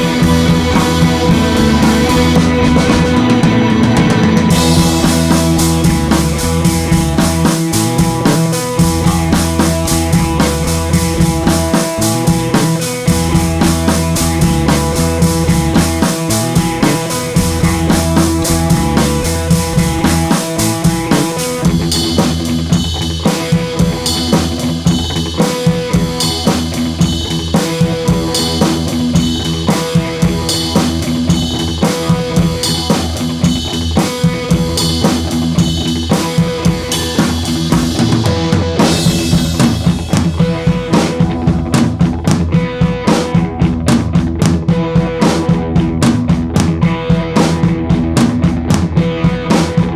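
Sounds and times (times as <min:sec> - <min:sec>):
music with drum kit beat: 0:00.0 - 0:49.9.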